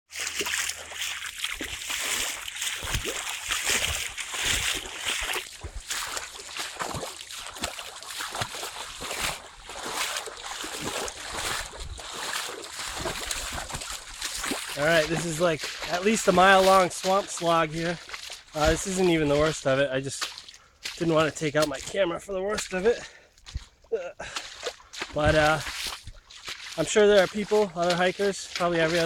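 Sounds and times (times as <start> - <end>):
boots wading through water and mud: 0.1 - 29.0.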